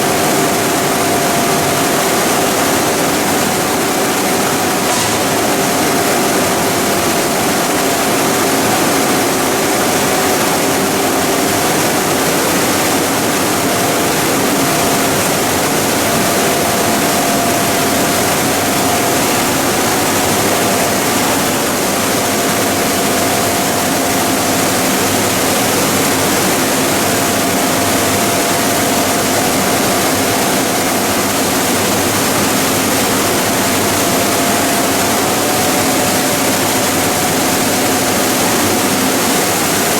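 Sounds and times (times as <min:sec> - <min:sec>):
constant machine hums: 0:00.0 - 0:39.9
pelletizing machinery running: 0:00.0 - 0:39.9.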